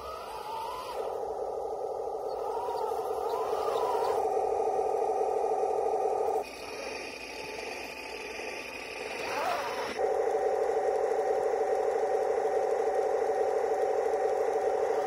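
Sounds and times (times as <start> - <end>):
pulsing toy tank engine sound: 0.0 - 15.0
quiet whir: 0.0 - 15.0.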